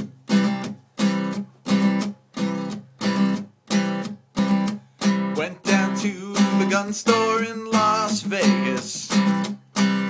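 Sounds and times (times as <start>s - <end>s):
strummed guitar chords: 0.0s - 10.0s.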